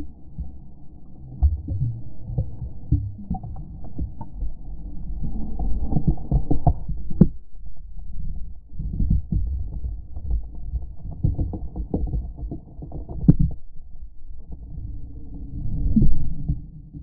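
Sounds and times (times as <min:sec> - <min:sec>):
low rumbling: 0:00.0 - 0:17.0.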